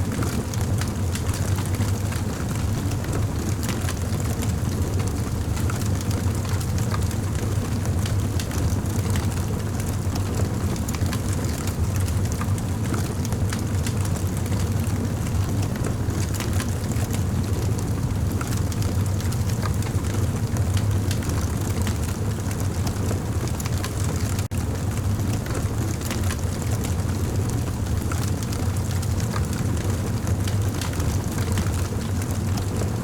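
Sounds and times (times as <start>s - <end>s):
burning wood crackling and popping: 0.0s - 33.0s
campfire flame rumble: 0.0s - 33.0s.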